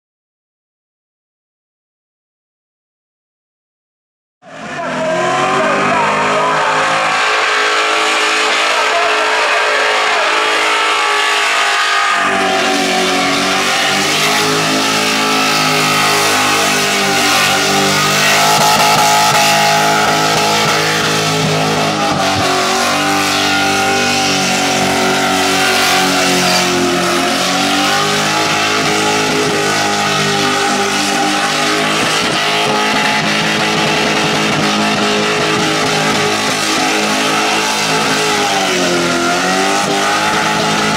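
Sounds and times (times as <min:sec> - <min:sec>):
car engine at high revs: 0:04.4 - 0:40.9.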